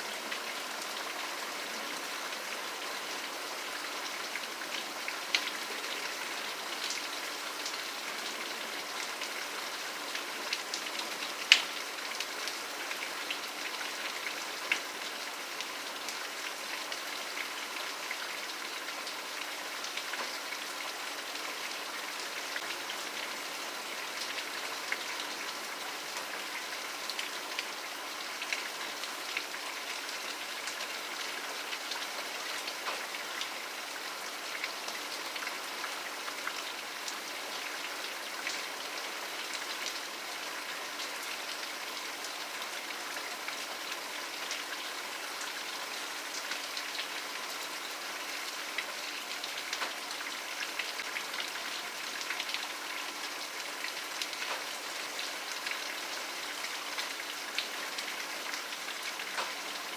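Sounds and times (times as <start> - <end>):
steady rain hiss: 0.0 - 59.9
raindrops pattering on a surface: 4.2 - 23.3, 24.0 - 38.7, 39.3 - 59.9.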